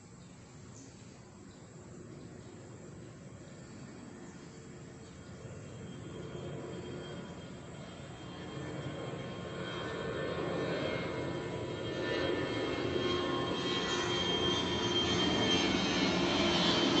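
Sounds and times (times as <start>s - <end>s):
engine with high whine: 2.0s - 17.0s.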